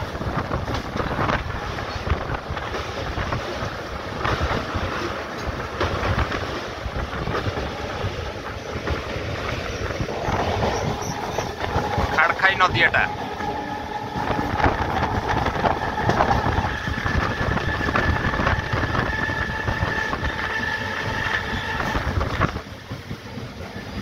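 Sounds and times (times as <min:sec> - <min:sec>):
electric train running: 0:00.0 - 0:24.0
wind buffeting microphone: 0:00.0 - 0:24.0.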